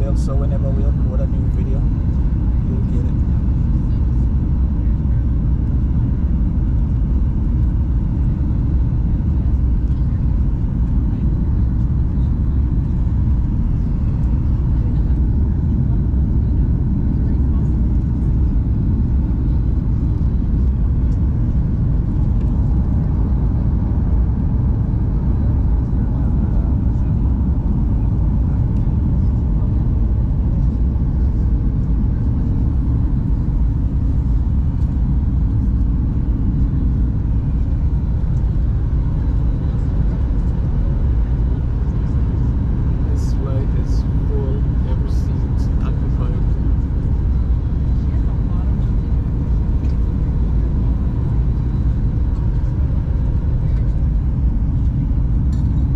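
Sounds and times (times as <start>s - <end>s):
airplane cabin engine rumble: 0.0s - 55.9s.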